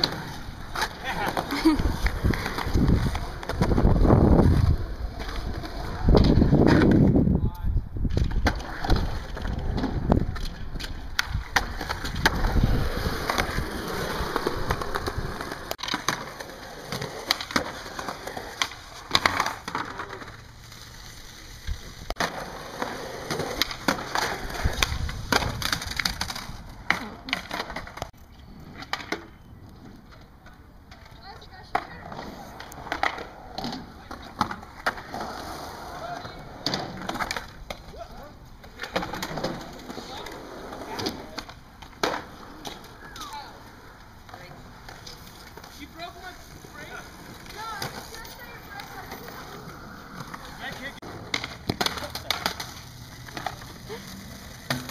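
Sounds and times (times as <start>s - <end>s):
skateboard clacks: 0.0s - 7.2s, 8.0s - 20.5s, 22.0s - 28.1s, 28.7s - 38.0s, 38.6s - 54.9s
skateboard wheels rolling on concrete: 0.0s - 54.9s.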